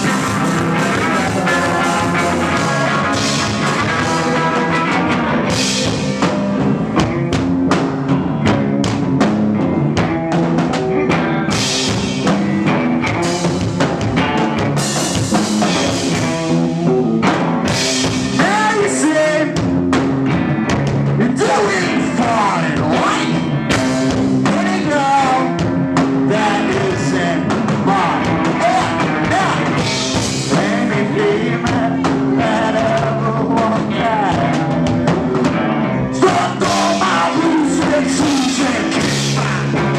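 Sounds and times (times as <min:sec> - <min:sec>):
drum kit beat: 0:00.0 - 0:39.9
live rock band: 0:00.0 - 0:39.9.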